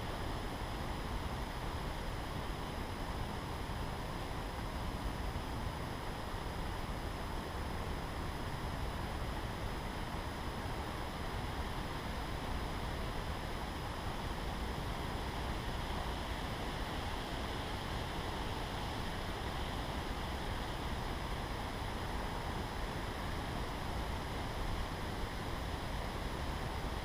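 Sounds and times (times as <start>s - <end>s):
wind through trees: 0.0s - 27.0s.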